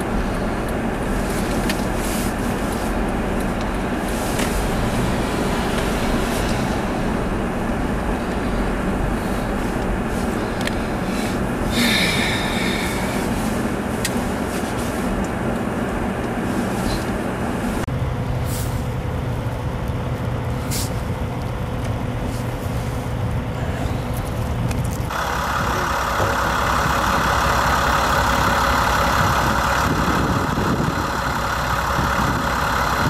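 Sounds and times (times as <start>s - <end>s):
vehicle running on snowy road: 0.0s - 33.0s.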